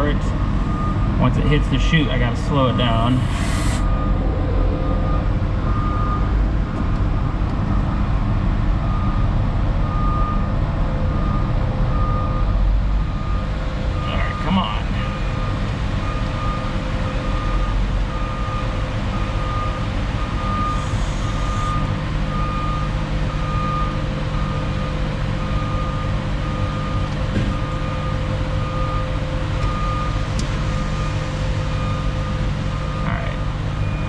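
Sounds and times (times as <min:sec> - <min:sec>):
reversing alarm beeping: 0:00.4 - 0:08.1, 0:11.1 - 0:34.0.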